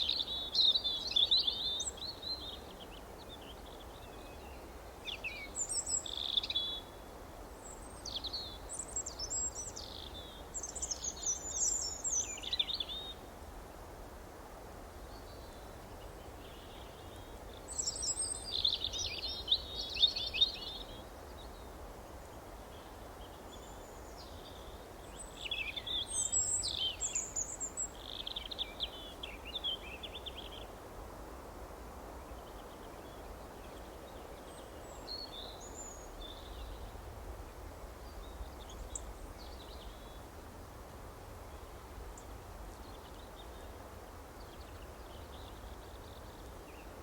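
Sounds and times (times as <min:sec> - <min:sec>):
outdoor ambience hiss: 0:00.0 - 0:47.0.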